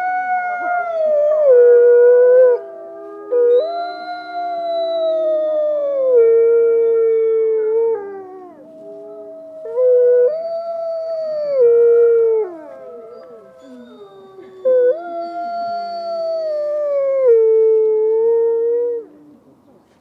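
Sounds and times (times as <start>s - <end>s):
dogs howling: 0.0s - 17.9s.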